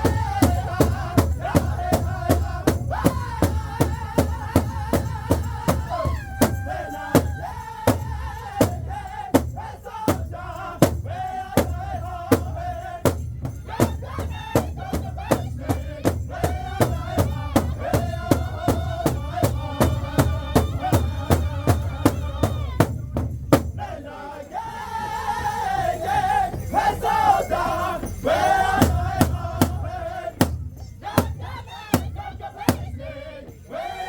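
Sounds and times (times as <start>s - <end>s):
big drum beat: 0.0s - 24.0s, 25.8s - 33.2s
group singing in high voices: 0.0s - 34.0s.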